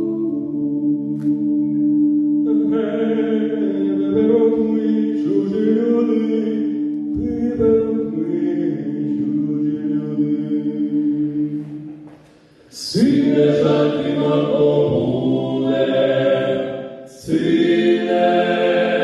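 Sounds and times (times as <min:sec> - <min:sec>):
voices singing in parts: 0:00.0 - 0:19.0.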